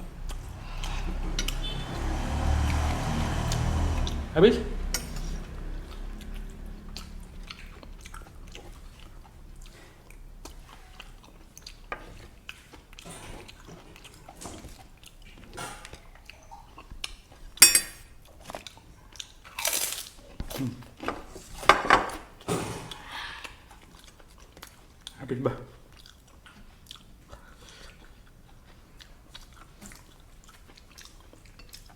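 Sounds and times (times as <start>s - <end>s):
chewing and crunching: 0.0s - 1.8s, 5.0s - 17.5s, 18.2s - 21.6s, 22.4s - 31.9s.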